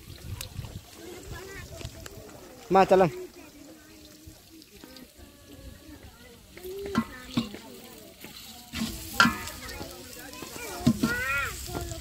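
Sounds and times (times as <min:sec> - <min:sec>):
food sizzling in a pot: 0:00.0 - 0:12.0
voices calling out: 0:00.2 - 0:12.0.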